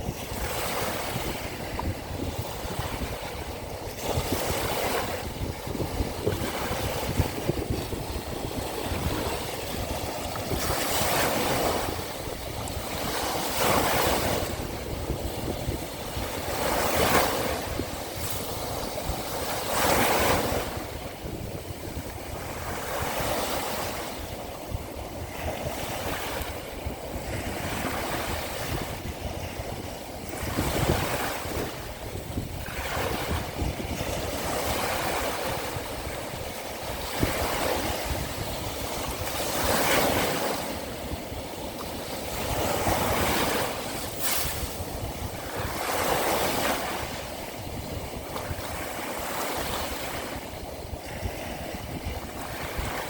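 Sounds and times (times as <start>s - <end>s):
small waves breaking on shore: 0.0s - 53.0s
wind buffeting microphone: 0.0s - 53.0s.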